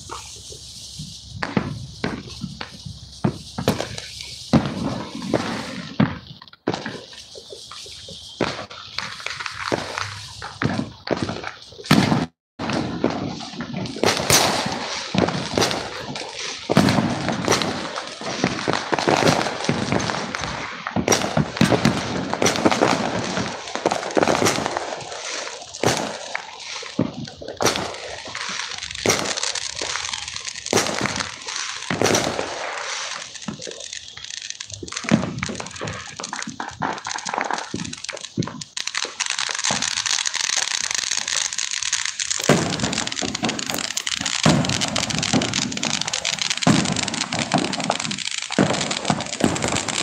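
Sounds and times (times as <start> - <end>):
fireworks bangs: 0.0 - 50.0
fireworks crackling: 0.0 - 50.0.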